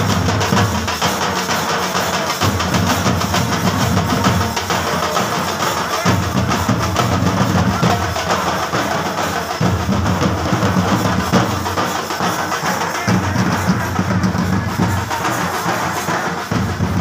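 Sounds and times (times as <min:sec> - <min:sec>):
steel drums beaten with sticks: 0:00.0 - 0:17.0.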